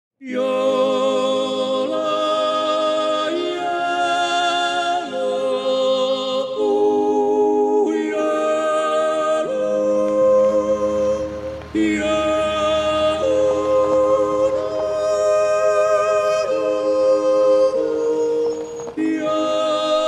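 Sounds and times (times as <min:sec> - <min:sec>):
unaccompanied singing: 0:00.2 - 0:20.0.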